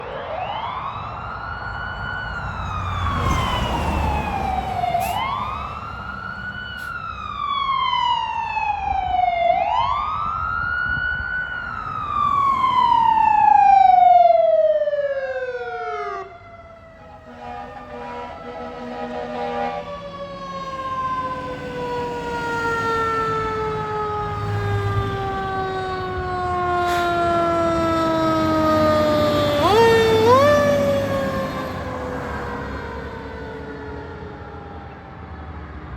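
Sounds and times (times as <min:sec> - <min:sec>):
fire engine siren wailing: 0:00.0 - 0:35.9
low truck rumble: 0:01.3 - 0:14.8, 0:16.3 - 0:35.9.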